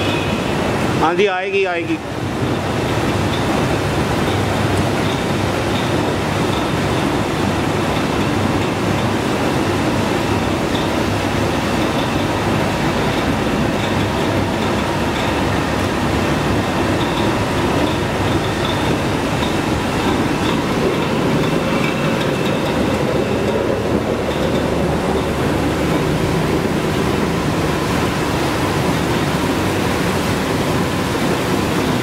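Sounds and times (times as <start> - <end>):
machine rumble and rattle: 2.0 - 32.0.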